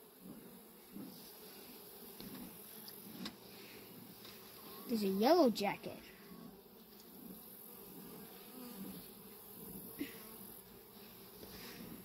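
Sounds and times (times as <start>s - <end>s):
bees buzzing faintly: 0.0s - 12.0s.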